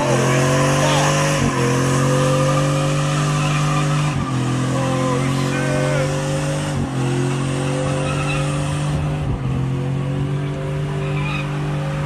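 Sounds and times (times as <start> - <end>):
tires spinning and squealing: 0.0 - 12.0
truck engine at high revs: 0.0 - 12.0.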